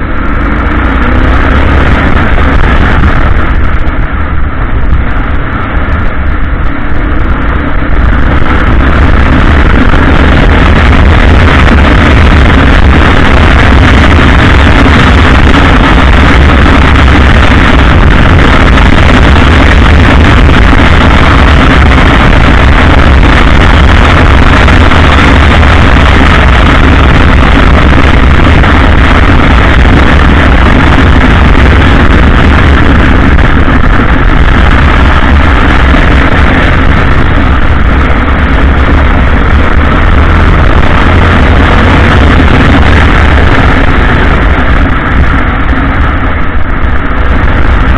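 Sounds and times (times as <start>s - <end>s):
motorcycle engine: 0.0s - 47.9s
wind rushing on microphone: 0.0s - 47.9s.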